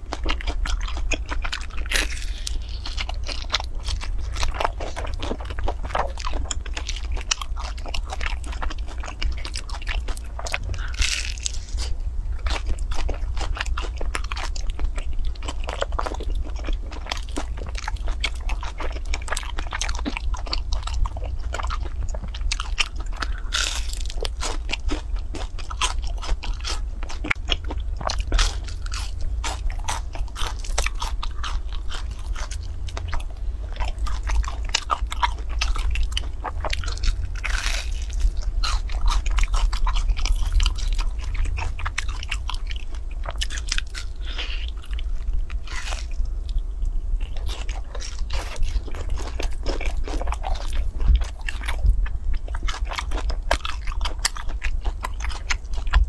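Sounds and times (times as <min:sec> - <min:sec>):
person chewing cake: 0:00.0 - 0:56.0
steady low hum: 0:00.0 - 0:56.0.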